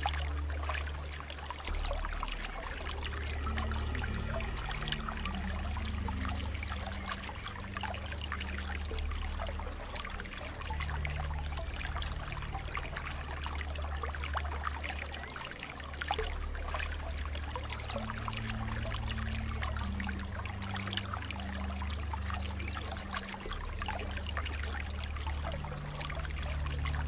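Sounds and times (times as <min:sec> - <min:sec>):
low held drone: 0:00.0 - 0:27.0
water trickling and splashing: 0:00.0 - 0:27.0.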